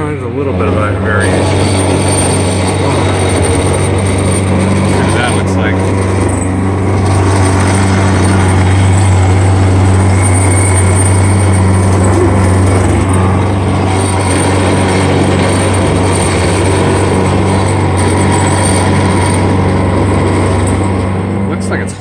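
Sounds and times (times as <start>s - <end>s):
milling machine cutting metal: 0.0s - 22.0s.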